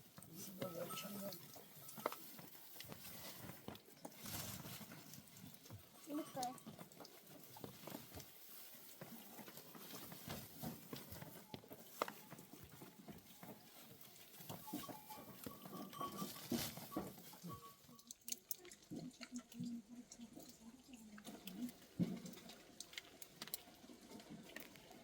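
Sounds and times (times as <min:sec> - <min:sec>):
livestock moving about: 0:00.0 - 0:25.0.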